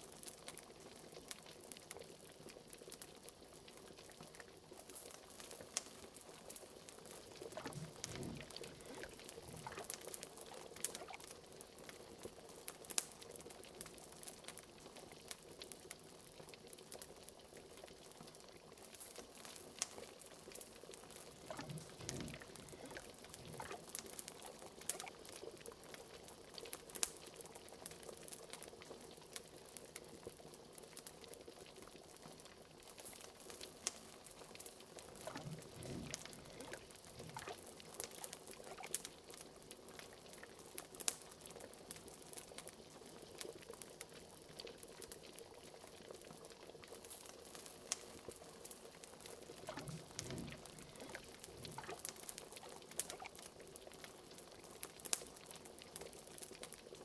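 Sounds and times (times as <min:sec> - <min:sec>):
liquid bubbling in a pot: 0:00.0 - 0:57.0
wood fire crackling: 0:00.0 - 0:57.0.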